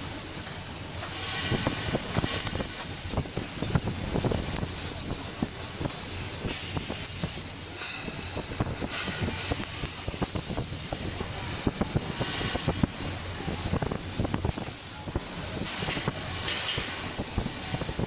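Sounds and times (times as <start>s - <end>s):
welding arc crackling: 0.0s - 18.0s
welding hiss: 0.0s - 18.0s.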